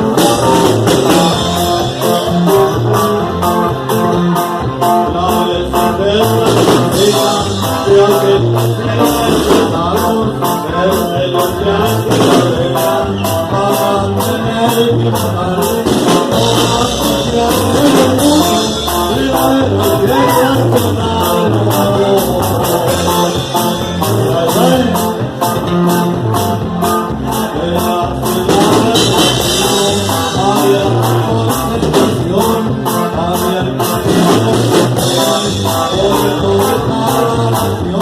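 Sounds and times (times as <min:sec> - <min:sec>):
bass: 0:00.0 - 0:38.0
guitar: 0:00.0 - 0:38.0
person singing: 0:00.0 - 0:38.0.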